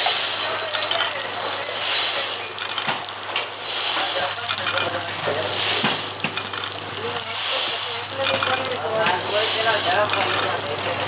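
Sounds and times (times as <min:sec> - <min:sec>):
packing machine hissing rush: 0:00.0 - 0:11.0.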